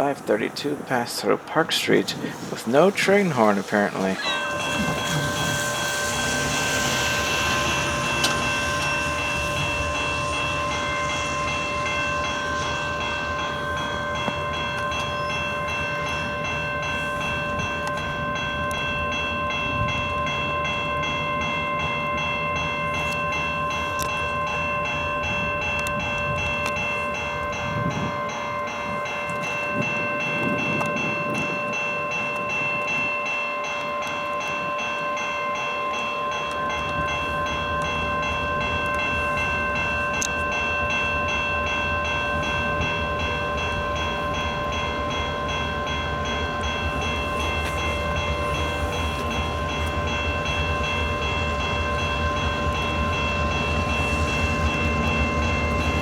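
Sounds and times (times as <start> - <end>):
level crossing bell ringing: 0.0 - 56.0
train wheels rumbling on rails: 0.0 - 56.0.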